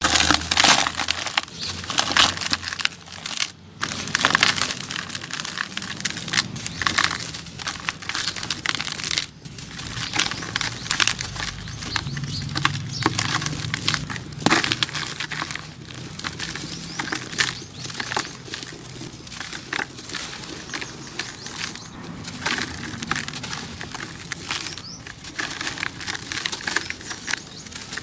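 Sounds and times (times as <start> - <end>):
crunchy sand crumbling in bucket: 0.0 - 28.0.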